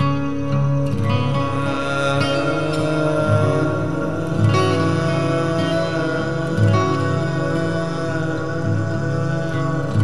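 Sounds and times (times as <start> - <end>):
instrumental music with sustained notes: 0.0 - 10.0.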